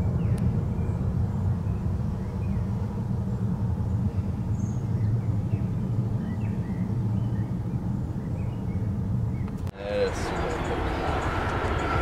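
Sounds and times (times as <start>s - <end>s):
jet airliner engines rumbling: 0.0s - 12.0s.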